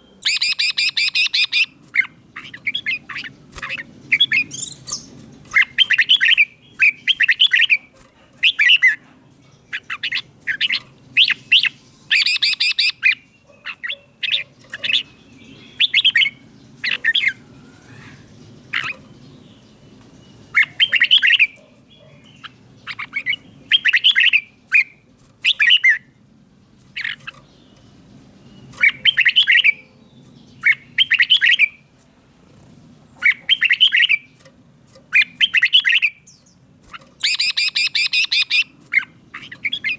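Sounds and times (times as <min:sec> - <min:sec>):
bulbul singing chattering phrases: 0:00.0 - 0:26.1, 0:26.8 - 0:34.4, 0:35.0 - 0:39.9.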